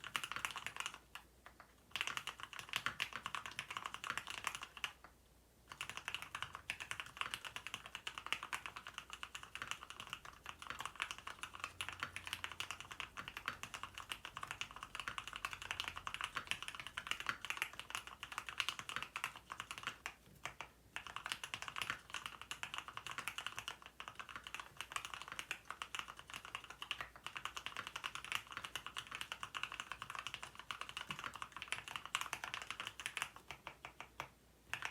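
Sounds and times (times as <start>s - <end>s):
mechanical keyboard typing: 0.0s - 5.1s, 5.7s - 34.9s.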